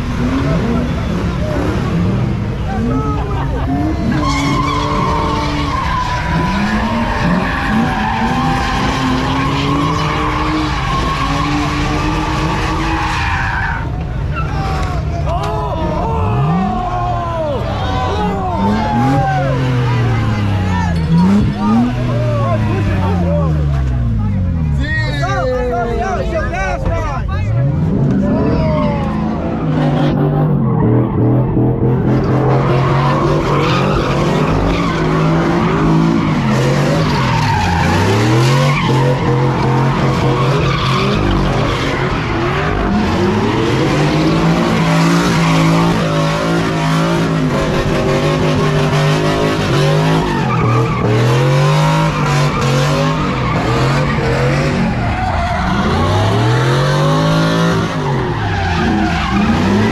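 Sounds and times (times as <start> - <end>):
car engine revving high: 0.0 - 15.0, 16.0 - 24.8, 27.5 - 59.9
tyres screeching: 2.8 - 59.9.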